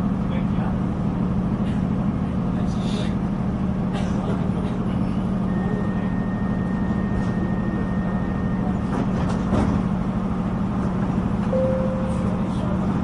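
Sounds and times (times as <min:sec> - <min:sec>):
train engine hum and rumble: 0:00.0 - 0:13.0.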